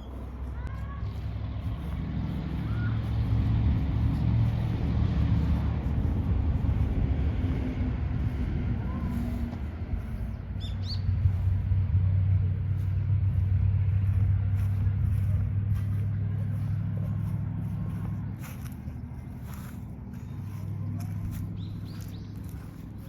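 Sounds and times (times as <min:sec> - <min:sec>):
continuous hum: 0:00.0 - 0:23.0
vehicle engine rumble: 0:00.0 - 0:23.0.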